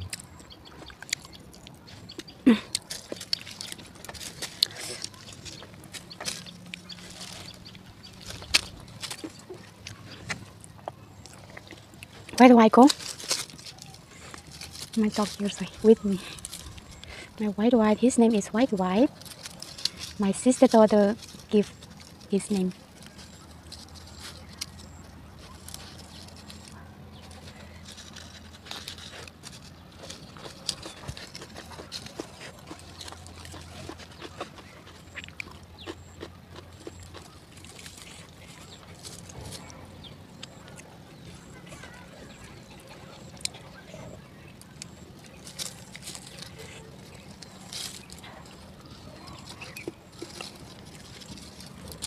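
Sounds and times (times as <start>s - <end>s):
fingers handling food: 0.0s - 52.0s
wet chewing: 0.0s - 52.0s.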